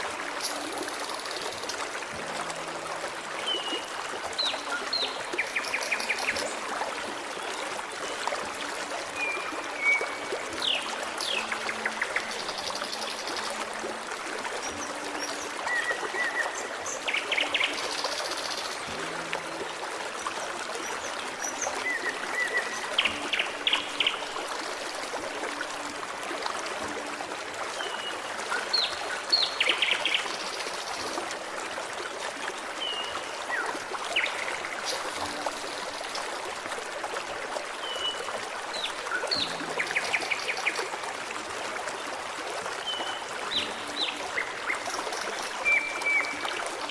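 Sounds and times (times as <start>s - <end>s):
forest stream trickling: 0.0s - 46.9s.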